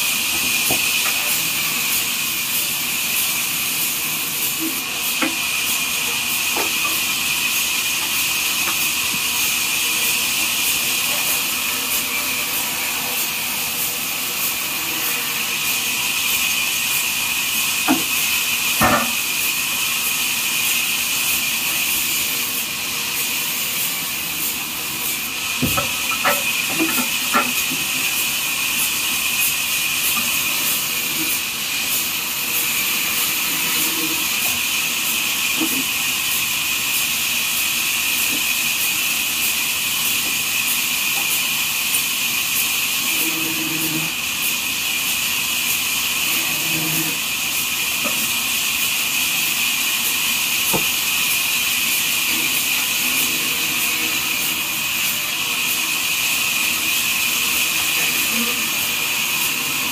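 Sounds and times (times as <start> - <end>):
band saw hissing: 0.0 - 59.9.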